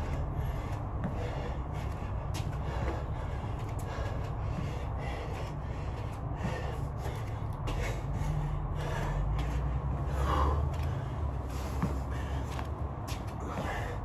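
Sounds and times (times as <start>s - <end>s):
man breathing hard: 0.0s - 14.0s
steady low hum: 0.0s - 14.0s.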